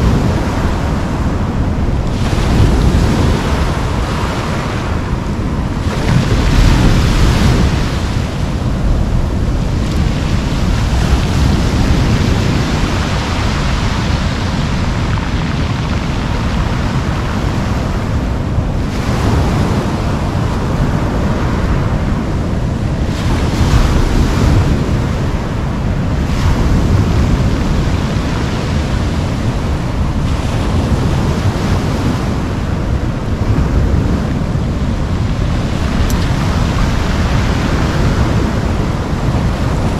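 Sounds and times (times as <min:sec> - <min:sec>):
surf washing up pebble beach: 0:00.0 - 0:39.9
wind rumble on microphone: 0:00.0 - 0:39.9.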